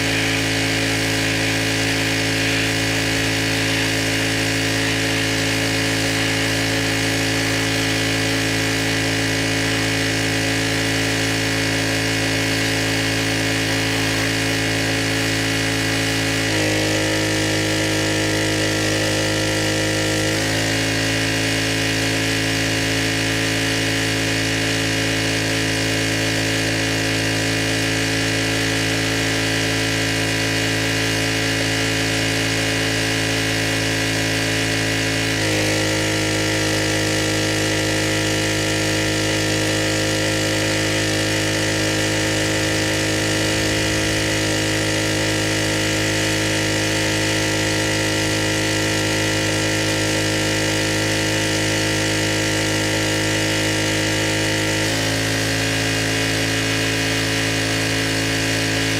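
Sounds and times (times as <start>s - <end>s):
pressure washer engine running: 0.0s - 58.9s.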